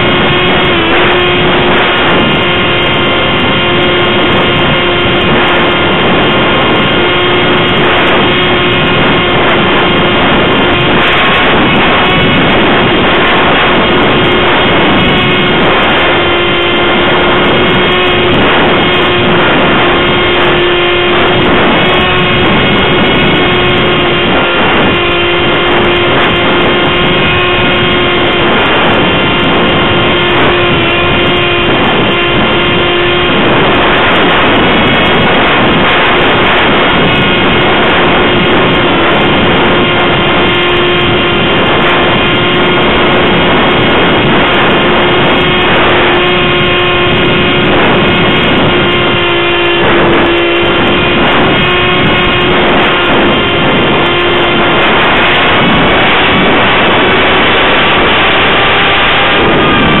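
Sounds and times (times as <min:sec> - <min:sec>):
electric motor whine: 0:00.0 - 1:00.0
wind buffeting microphone: 0:00.0 - 1:00.0.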